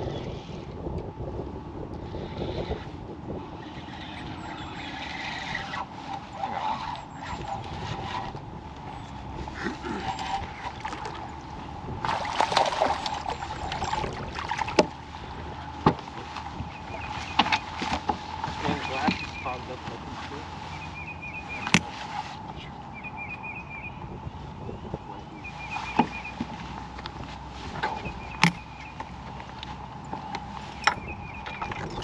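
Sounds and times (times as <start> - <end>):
water: 0.0 - 32.0
wind: 0.0 - 32.0.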